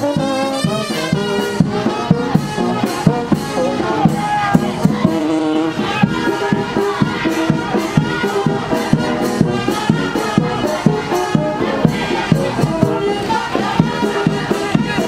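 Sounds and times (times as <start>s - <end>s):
brass band music: 0.0s - 15.0s
steady drumbeat: 0.0s - 15.0s.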